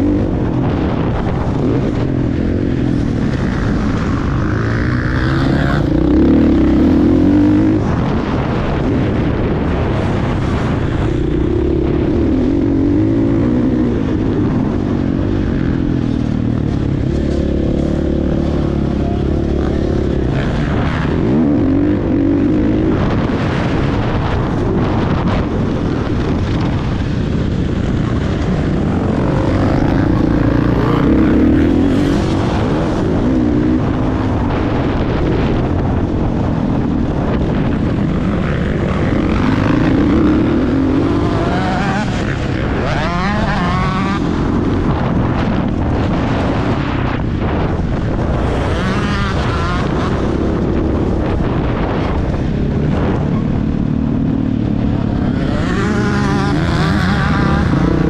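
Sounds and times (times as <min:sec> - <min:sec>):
motorcycle engine revving: 0:00.0 - 0:58.0
wind noise on microphone: 0:00.0 - 0:58.0.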